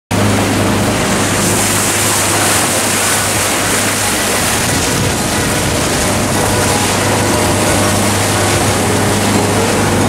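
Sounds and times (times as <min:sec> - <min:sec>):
boat engine hum: 0:00.1 - 0:10.0
rush of wind and water: 0:00.1 - 0:10.0.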